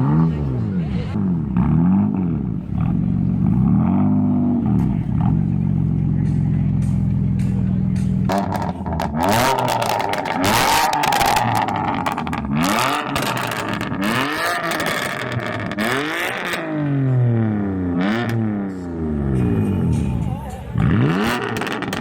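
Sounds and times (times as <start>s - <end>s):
car engine revving: 0.0s - 22.0s
exhaust popping and crackling: 1.5s - 22.0s.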